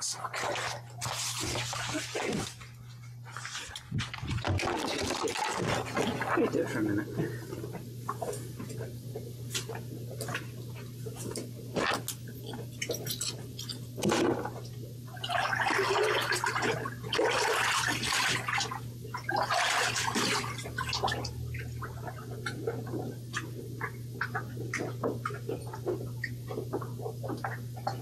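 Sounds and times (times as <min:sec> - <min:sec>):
steady low hum: 0:00.0 - 0:28.0
water sloshing and gurgling: 0:00.0 - 0:28.0.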